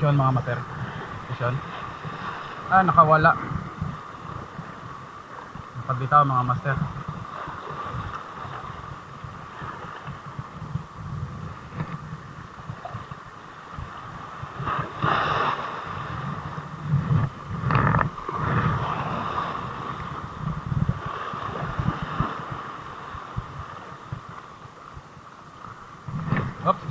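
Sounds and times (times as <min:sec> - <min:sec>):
waves splashing against boat: 0:00.0 - 0:26.9
wind buffeting microphone: 0:00.0 - 0:26.9.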